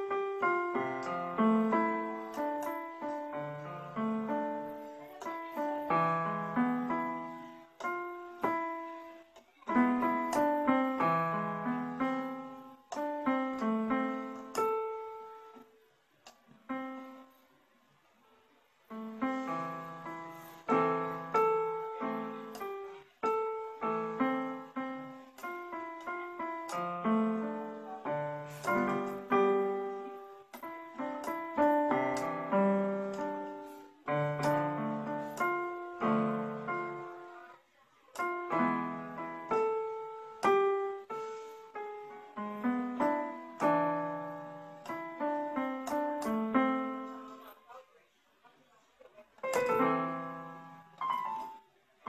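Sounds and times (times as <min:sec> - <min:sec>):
electronic keyboard piano chords: 0:00.0 - 0:17.6, 0:18.8 - 0:47.6, 0:49.3 - 0:52.0.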